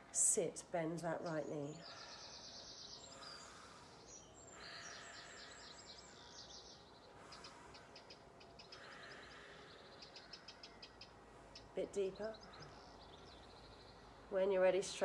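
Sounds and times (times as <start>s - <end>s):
quiet outdoor background noise: 0.0s - 15.0s
songbirds chirping: 0.0s - 15.0s.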